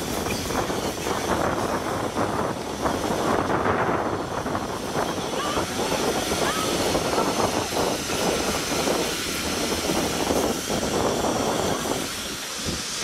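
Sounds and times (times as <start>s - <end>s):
steam engine rumble: 0.0s - 13.0s
steam hissing: 0.0s - 13.0s
wind buffeting microphone: 0.0s - 13.0s.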